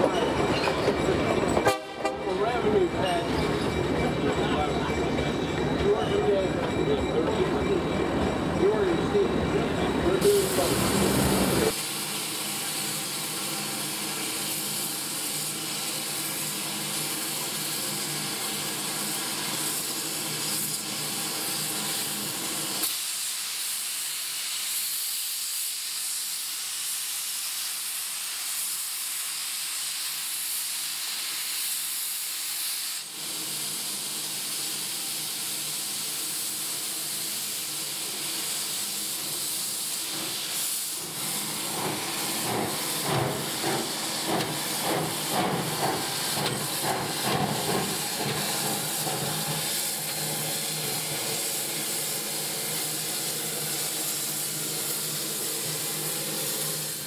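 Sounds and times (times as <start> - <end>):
steam hissing from locomotive: 0.0 - 57.0.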